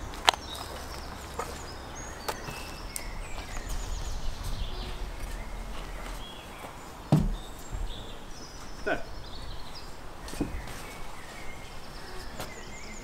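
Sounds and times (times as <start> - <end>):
steady low rumble: 0.0 - 10.7
small birds chirping: 0.0 - 13.0.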